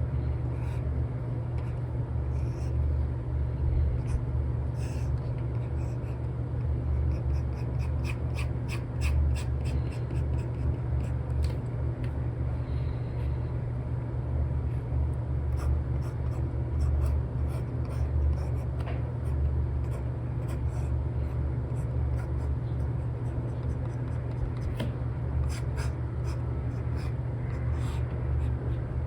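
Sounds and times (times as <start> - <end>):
low background rumble: 0.0 - 29.0.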